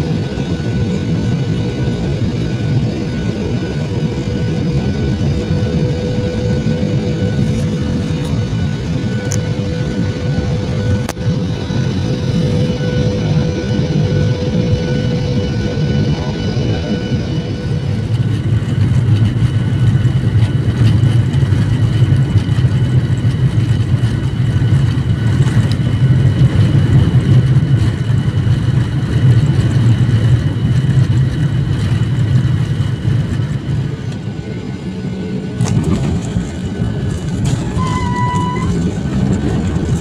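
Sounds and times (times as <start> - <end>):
airliner engine rumble: 0.0 - 40.0
faint engine whines: 0.0 - 40.0.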